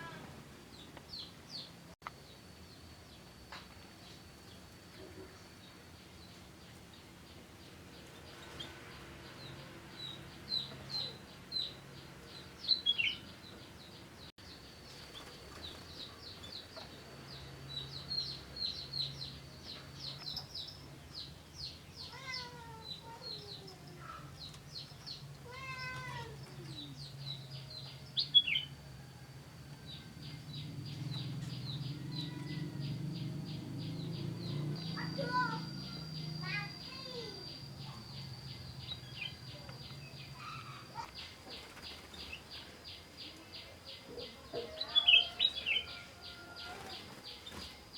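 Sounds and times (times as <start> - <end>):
small birds chirping: 0.0 - 28.8, 29.6 - 47.9.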